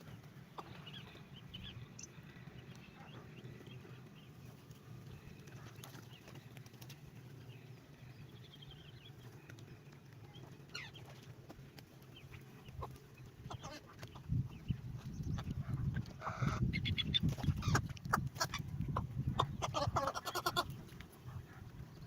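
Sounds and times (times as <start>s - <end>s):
birds chirping and clucking: 0.0s - 22.0s.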